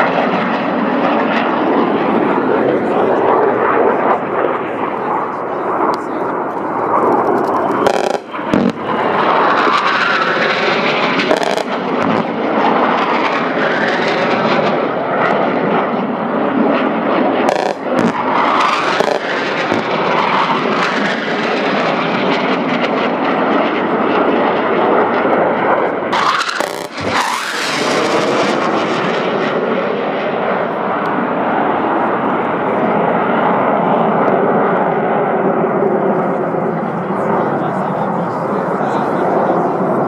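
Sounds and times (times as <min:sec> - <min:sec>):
fighter jet engine roar: 0:00.0 - 0:40.0.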